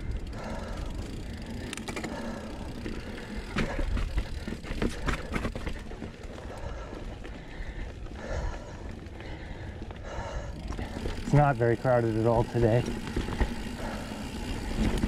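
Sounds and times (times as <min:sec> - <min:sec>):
bike tyres rumbling over rock: 0:00.0 - 0:15.0
wheels knocking on rocks: 0:00.1 - 0:08.2, 0:10.6 - 0:15.0.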